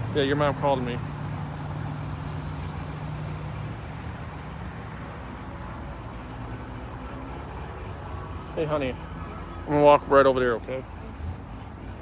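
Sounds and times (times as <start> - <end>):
idling engine hum: 0.0 - 12.0.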